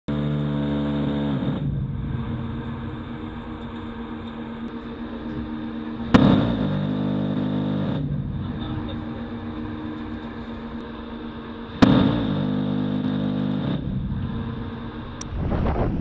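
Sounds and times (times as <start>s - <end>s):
hum: 0.1s - 16.0s
wind: 0.1s - 16.0s
sharp blast: 1.0s - 10.0s, 10.6s - 16.0s.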